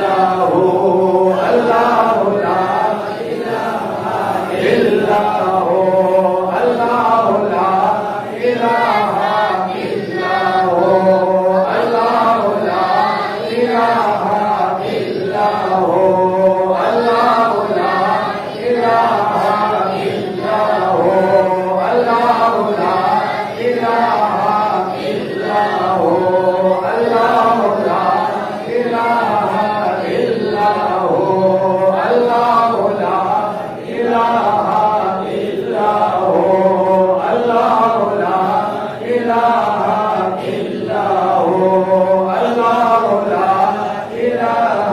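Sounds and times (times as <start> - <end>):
men chanting devotional recitation: 0.0 - 44.9.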